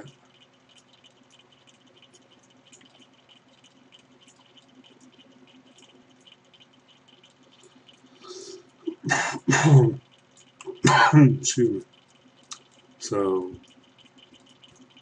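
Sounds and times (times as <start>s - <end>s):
computer mouse clicking: 0.0s - 8.9s, 10.0s - 10.8s, 11.8s - 15.0s
low steady hum: 0.0s - 15.0s.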